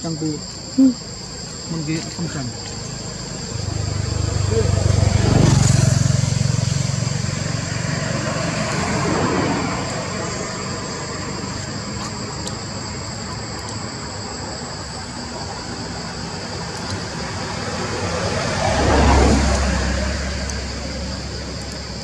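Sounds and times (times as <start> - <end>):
outdoor background noise: 0.0 - 22.0
vehicle engine rumble: 0.0 - 22.0.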